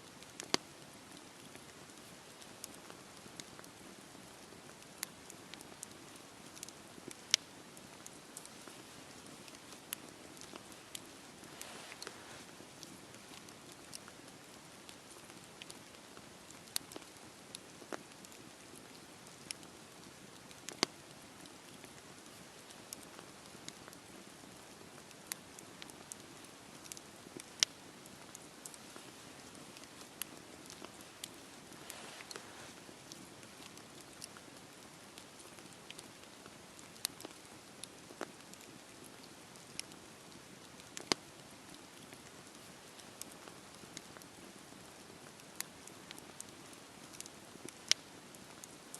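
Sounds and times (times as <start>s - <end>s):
rain patter: 0.0s - 48.9s
campfire crackling and popping: 0.1s - 48.9s.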